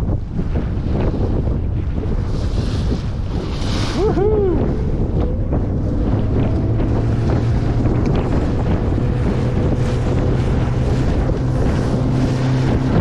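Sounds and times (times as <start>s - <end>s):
boat engine hum: 0.0s - 13.0s
wind buffeting microphone: 0.0s - 13.0s.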